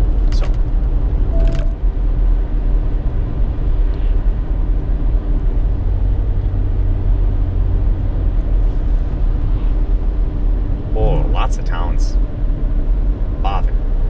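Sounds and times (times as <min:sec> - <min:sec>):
low hum: 0:00.0 - 0:14.0
vehicle cabin road rumble: 0:00.0 - 0:14.0.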